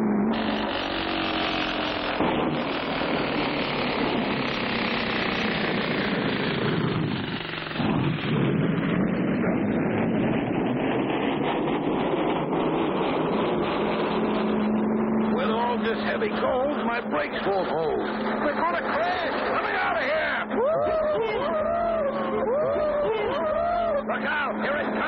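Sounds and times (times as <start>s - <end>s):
ore cart rumbling on track: 0.0s - 25.0s.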